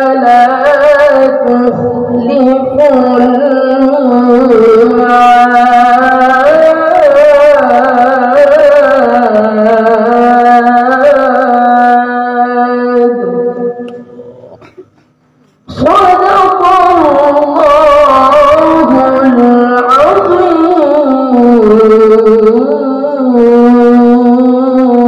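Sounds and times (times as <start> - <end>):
boy reciting melodically: 0.0 - 14.8, 15.6 - 25.0.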